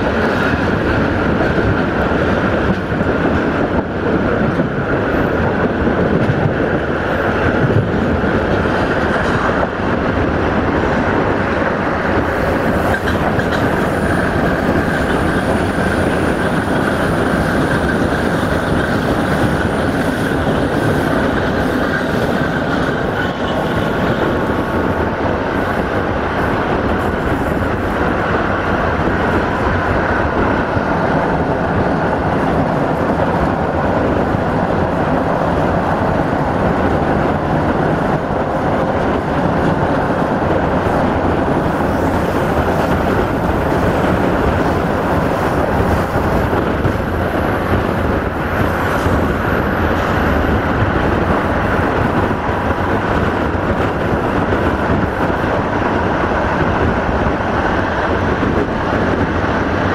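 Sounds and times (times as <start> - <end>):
passenger train running: 0.0 - 59.9
wind rushing over microphone: 0.0 - 59.9.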